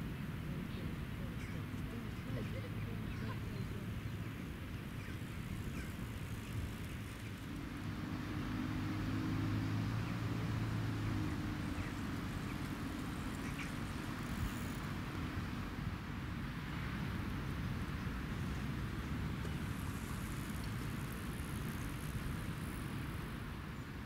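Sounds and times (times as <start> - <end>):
steady traffic noise: 0.0 - 24.0
vehicle engine hum: 0.0 - 24.0.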